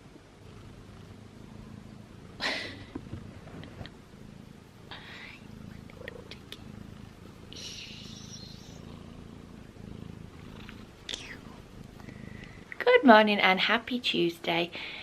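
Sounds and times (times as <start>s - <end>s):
rustle: 0.2s - 12.8s
kitten purring: 0.4s - 13.0s.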